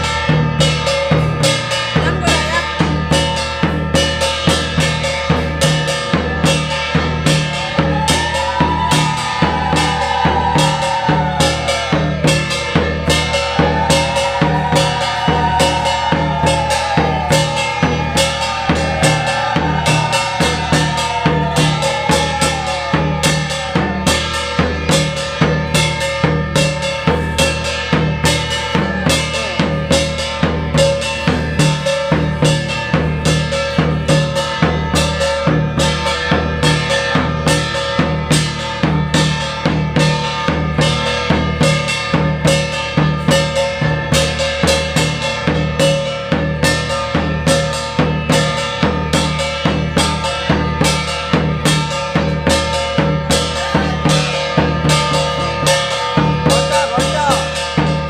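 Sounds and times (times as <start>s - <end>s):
drums beaten fast: 0.0s - 58.0s.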